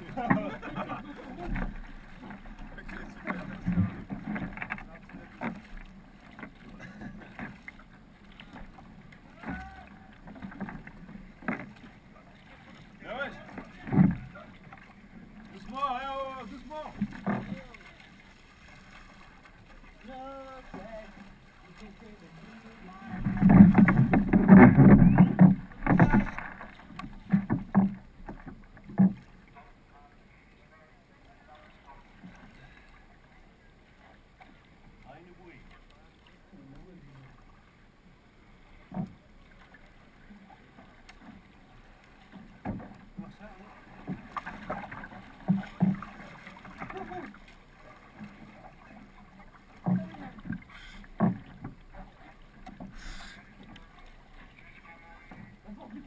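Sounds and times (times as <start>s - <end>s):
paddle strokes splashing: 0.0s - 56.0s
water slopping against hull: 0.0s - 56.0s.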